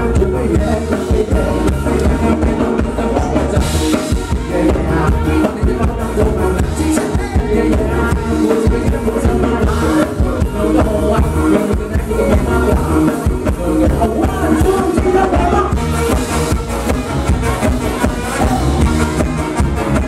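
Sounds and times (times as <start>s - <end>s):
man singing: 0.0s - 17.0s, 17.6s - 20.0s
band playing dance music: 0.0s - 20.0s
steady drum beat: 0.0s - 20.0s.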